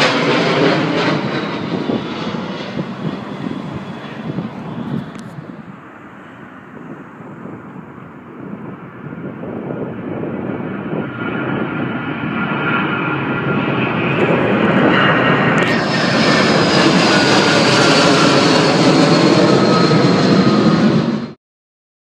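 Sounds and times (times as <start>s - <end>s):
high engine whine: 0.0s - 21.4s
jet airliner turbofans roaring: 0.0s - 21.4s.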